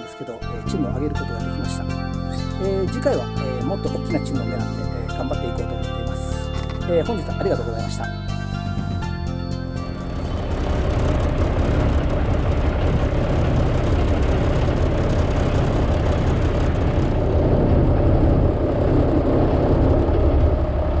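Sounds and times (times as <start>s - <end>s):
boat engine rumbling: 0.4s - 21.0s.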